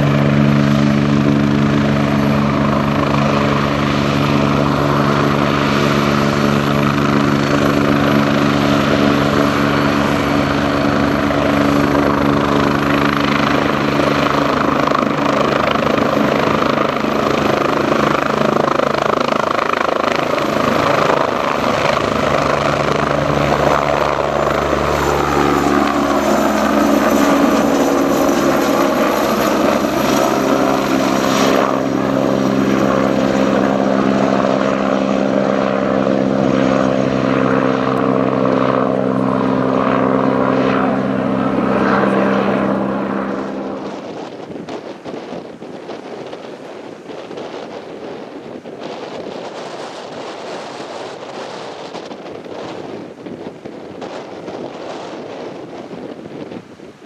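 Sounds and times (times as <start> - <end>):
helicopter rotor beat: 0.0 - 57.0
high turbine whine: 0.0 - 57.0.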